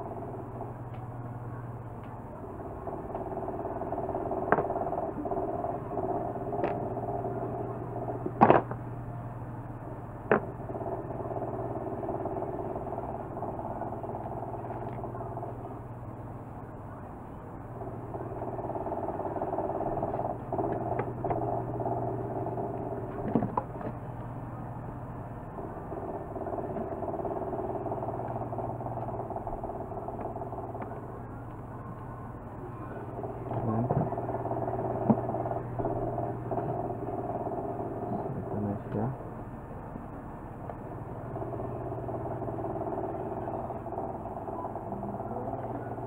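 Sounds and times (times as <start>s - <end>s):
steady low drone: 0.0s - 46.0s.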